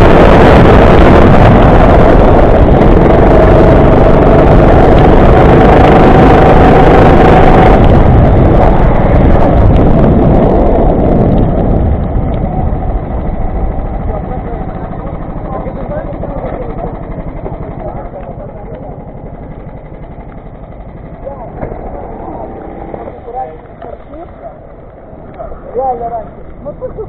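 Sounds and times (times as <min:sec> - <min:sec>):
go-kart engine running: 0:00.0 - 0:27.0
wind buffeting microphone: 0:00.0 - 0:27.0.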